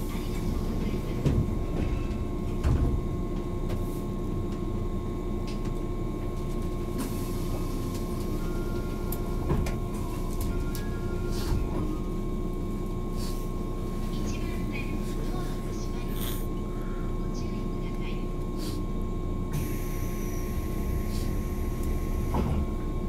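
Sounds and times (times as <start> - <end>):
electric train equipment hum: 0.0 - 23.0.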